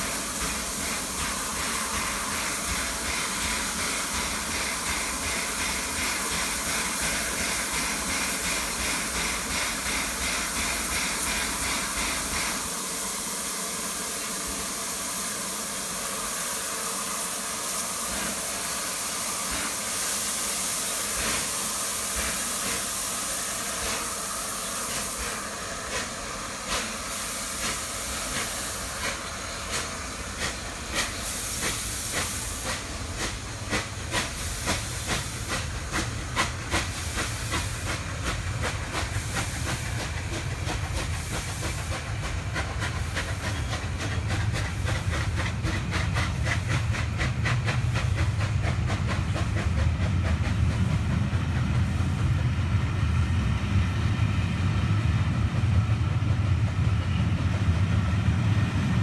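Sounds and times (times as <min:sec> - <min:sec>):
steam locomotive hissing steam: 0:00.0 - 0:59.0.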